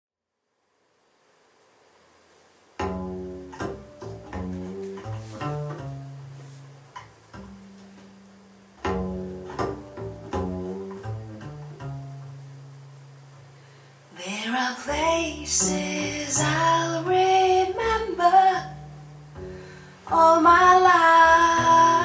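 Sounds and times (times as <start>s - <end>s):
plucked string bass melody: 2.8s - 13.8s, 14.9s - 22.0s.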